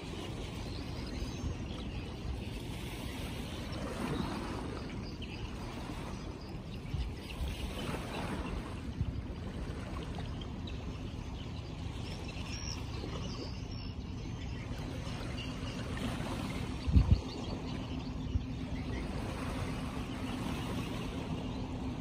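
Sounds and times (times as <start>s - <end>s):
faint bird chirps: 0.0s - 22.0s
river water noise: 0.0s - 22.0s.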